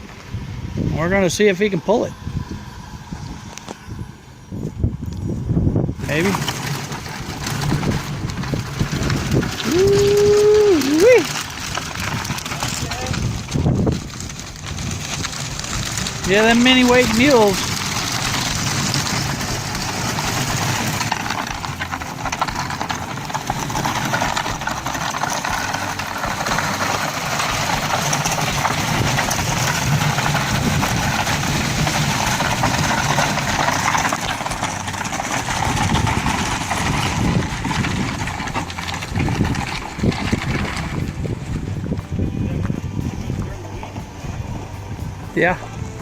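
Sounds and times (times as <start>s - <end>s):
small engine running: 6.0s - 46.0s.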